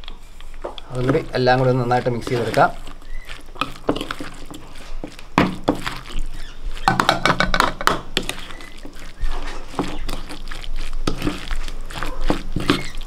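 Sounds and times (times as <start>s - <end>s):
spoon stirring thick wet mix: 0.0s - 13.0s
spoon scraping plastic bowl: 0.4s - 13.0s.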